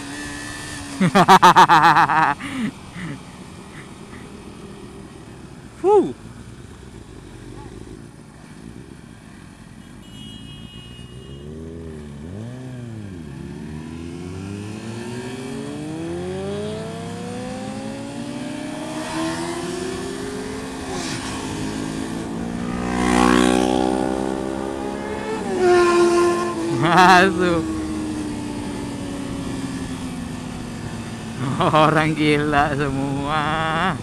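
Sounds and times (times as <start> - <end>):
motorcycle engine revving: 0.0 - 9.0, 11.0 - 34.0.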